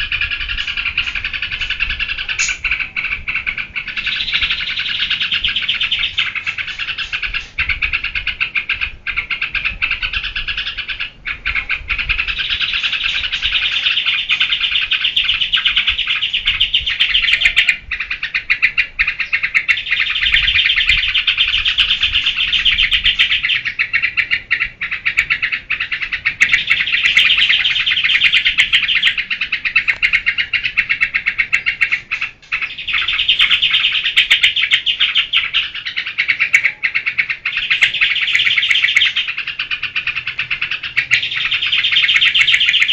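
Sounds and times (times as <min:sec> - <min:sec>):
bird chattering song: 0:00.0 - 0:42.9.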